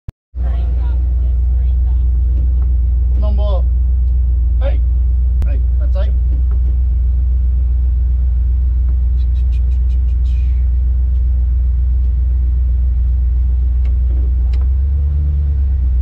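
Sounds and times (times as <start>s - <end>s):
truck engine idling: 0.4s - 16.0s.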